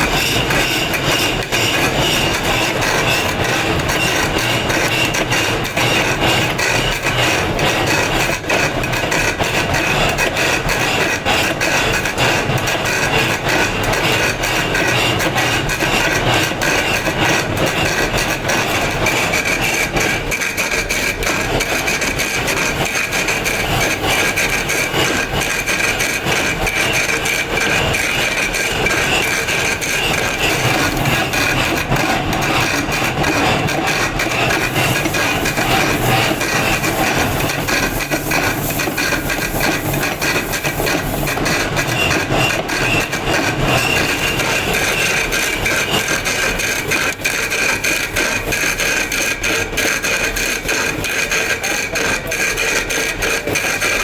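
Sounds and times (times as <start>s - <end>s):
grinding on stone: 0.0s - 54.0s.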